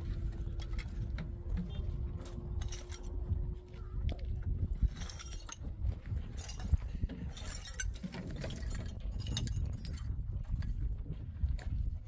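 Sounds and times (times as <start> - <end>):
low rumble: 0.0 - 12.0
light clinks and clicks: 0.2 - 3.4, 4.1 - 11.8.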